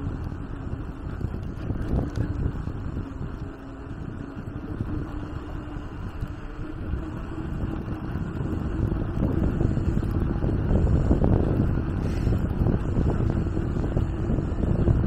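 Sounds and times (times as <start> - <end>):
low rumble: 0.0 - 15.0
wind buffeting microphone: 0.0 - 15.0.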